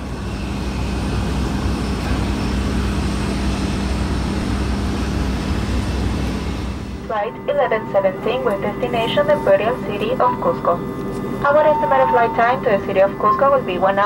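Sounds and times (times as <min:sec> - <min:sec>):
jet turbines rumbling and whining: 0:00.0 - 0:14.0
low hum: 0:00.0 - 0:14.0.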